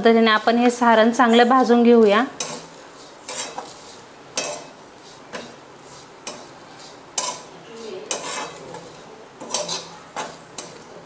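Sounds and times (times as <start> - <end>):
steel spatula scraping a pan: 1.6 - 11.0.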